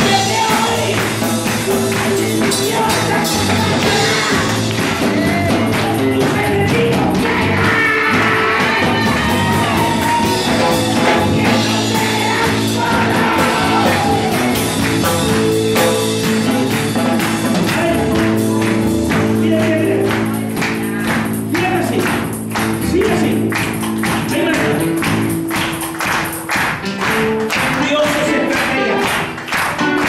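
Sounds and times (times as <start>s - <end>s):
quick percussion beat: 0.0s - 30.0s
sustained keyboard chords: 0.0s - 30.0s.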